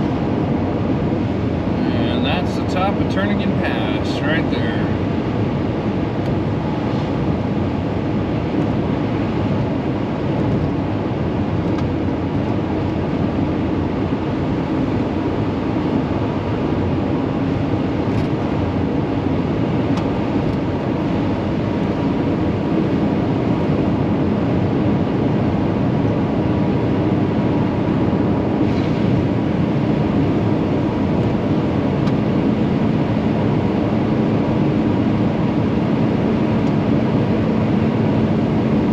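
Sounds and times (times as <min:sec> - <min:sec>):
road and tyre noise: 0:00.0 - 0:38.9
van engine drone: 0:00.0 - 0:38.9.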